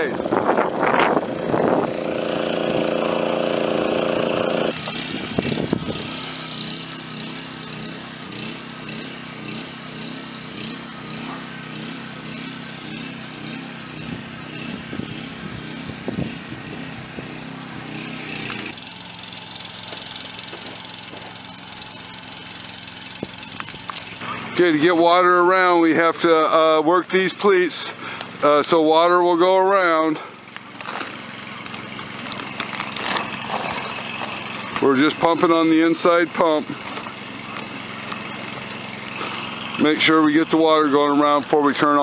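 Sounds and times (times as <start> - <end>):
small engine water pump running: 0.0 - 42.0.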